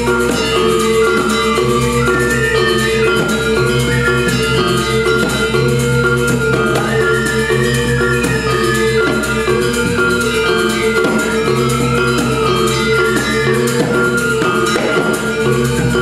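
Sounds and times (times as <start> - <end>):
drums: 0.0 - 16.0
metallophones ringing: 0.0 - 16.0.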